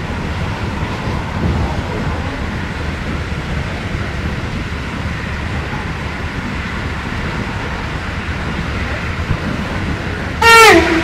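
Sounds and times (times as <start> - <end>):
train rumbling at speed: 0.0 - 11.0.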